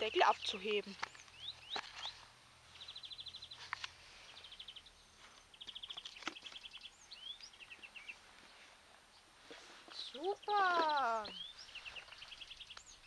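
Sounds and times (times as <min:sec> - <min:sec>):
songbird trilling: 0:00.1 - 0:02.2, 0:02.8 - 0:08.2, 0:09.9 - 0:13.0
rising bird chirps: 0:00.3 - 0:09.3, 0:09.9 - 0:13.0.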